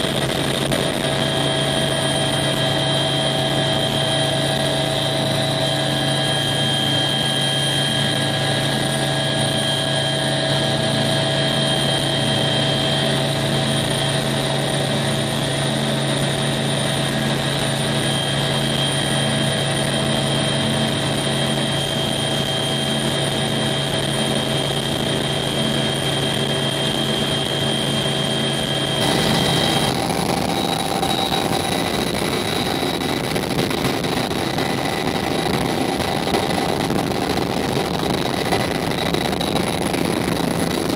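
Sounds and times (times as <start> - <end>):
helicopter rotor and engine drone: 0.0 - 40.9
high turbine whine: 0.0 - 40.9.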